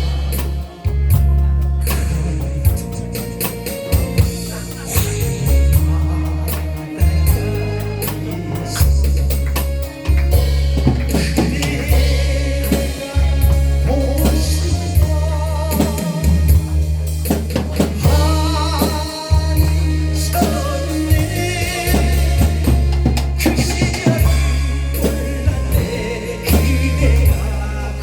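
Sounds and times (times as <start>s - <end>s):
heavy bass: 0.0s - 28.0s
person singing with vibrato: 0.0s - 28.0s
steady drum beat: 0.0s - 28.0s.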